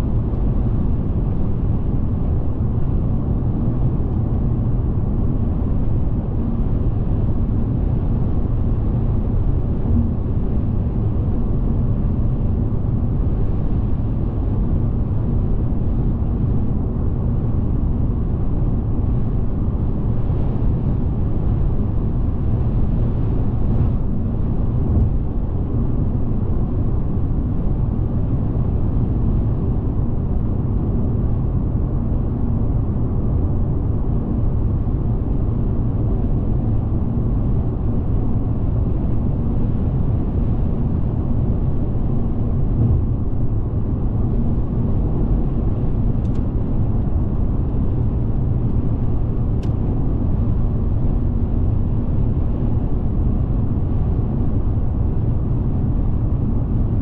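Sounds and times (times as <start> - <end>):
car driving at motorway speed: 0.0 - 57.0.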